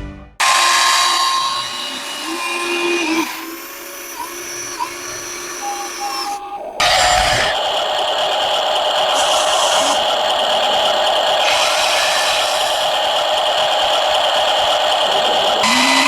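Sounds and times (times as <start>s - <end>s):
electric motors whining: 0.4s - 16.0s.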